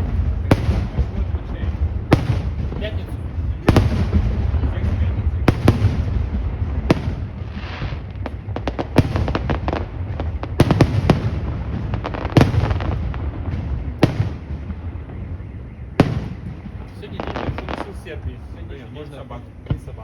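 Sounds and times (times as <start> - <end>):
fireworks bangs: 0.0 - 20.0
fireworks crackling: 0.0 - 20.0
low rumble: 0.0 - 20.0.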